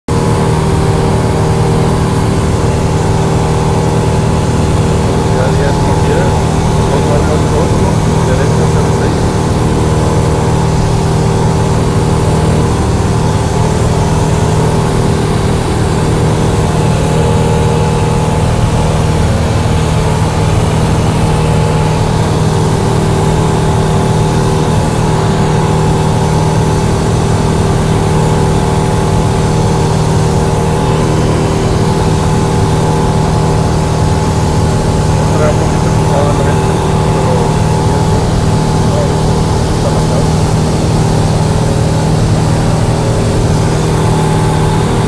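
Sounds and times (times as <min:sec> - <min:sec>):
airplane engine droning: 0:00.1 - 0:45.0.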